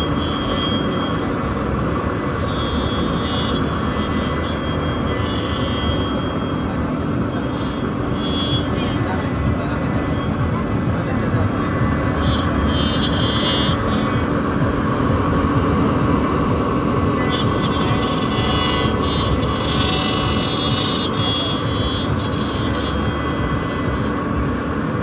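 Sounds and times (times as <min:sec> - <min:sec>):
voices chattering: 0:00.0 - 0:24.7
router spindle whine and hum: 0:00.0 - 0:25.0.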